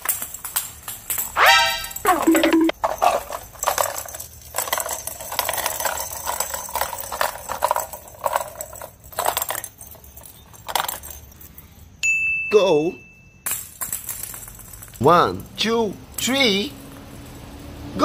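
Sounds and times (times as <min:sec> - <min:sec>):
toy balls rattling and clicking: 0:00.0 - 0:11.9, 0:13.4 - 0:18.0
light jingle: 0:00.2 - 0:18.0.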